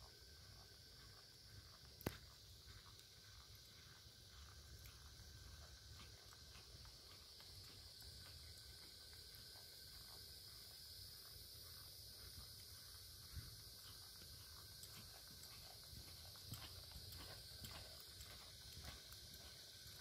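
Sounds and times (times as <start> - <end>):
high-pitched hiss: 0.0 - 20.0
horse hoofbeats on sand: 2.3 - 20.0.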